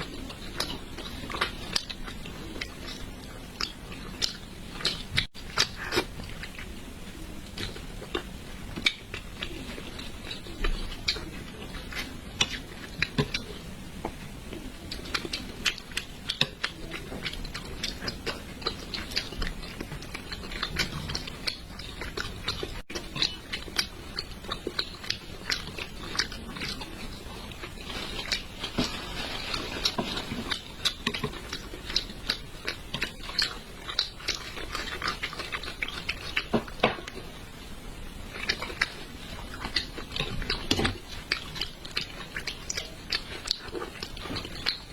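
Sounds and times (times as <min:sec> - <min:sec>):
wet chewing and lip smacks: 0:00.0 - 0:37.4, 0:38.1 - 0:44.9.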